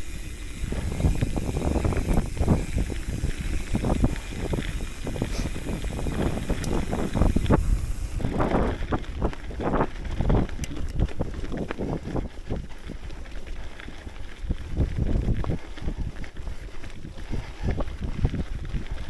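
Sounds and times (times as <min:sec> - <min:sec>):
bike clicks and rattles: 0:00.0 - 0:19.0
bike tyre noise on dirt: 0:00.0 - 0:19.0
wind buffeting microphone: 0:00.0 - 0:19.0.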